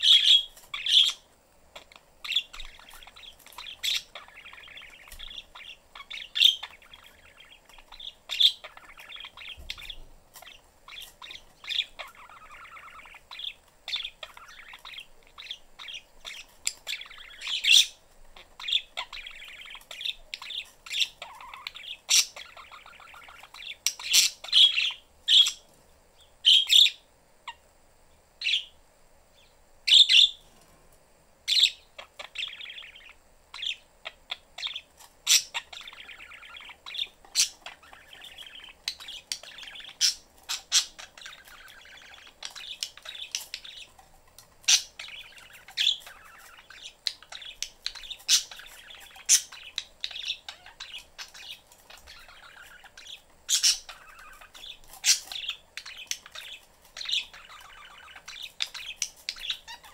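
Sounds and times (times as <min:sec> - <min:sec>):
budgerigars warbling chatter: 0:00.0 - 0:25.6, 0:31.5 - 0:59.9
budgerigars chirping: 0:00.0 - 0:27.6, 0:28.4 - 0:28.8, 0:29.4 - 0:30.5, 0:31.5 - 0:59.9.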